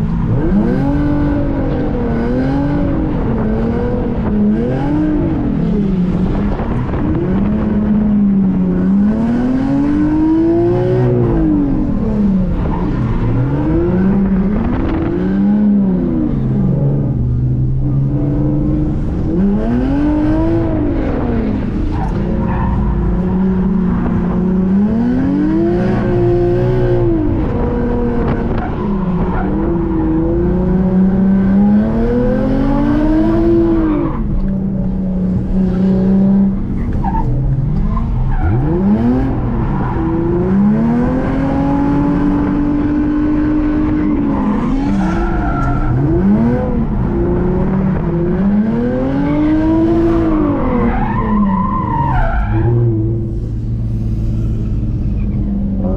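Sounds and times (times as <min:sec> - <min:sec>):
car engine revving: 0:00.0 - 0:55.9
tyres skidding: 0:00.0 - 0:55.9.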